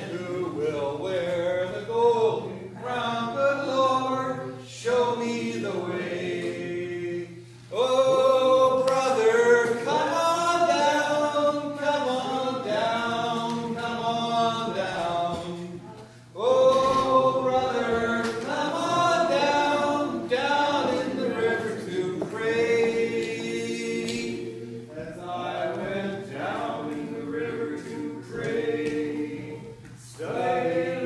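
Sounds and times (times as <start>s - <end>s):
voices singing unaccompanied: 0.0s - 31.0s.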